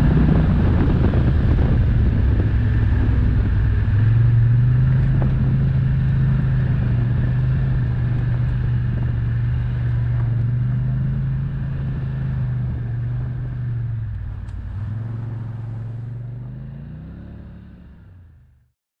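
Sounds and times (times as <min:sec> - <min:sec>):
atv engine running: 0:00.0 - 0:18.7.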